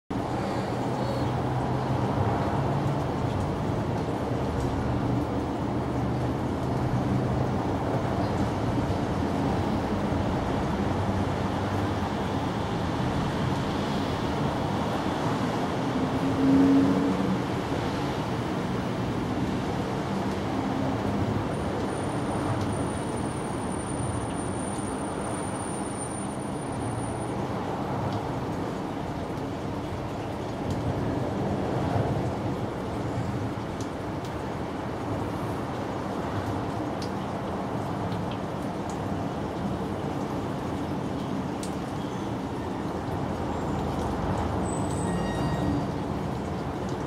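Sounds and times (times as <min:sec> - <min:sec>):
road traffic rumble: 0:00.1 - 0:47.0.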